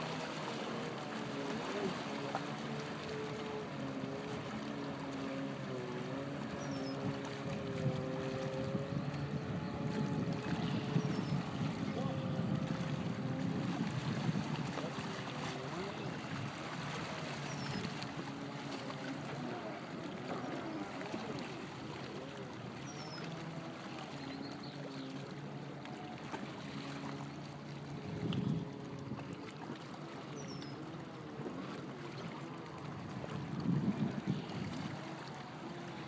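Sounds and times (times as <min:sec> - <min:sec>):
jet ski engine: 0:00.0 - 0:36.0
water rushing: 0:00.0 - 0:36.0.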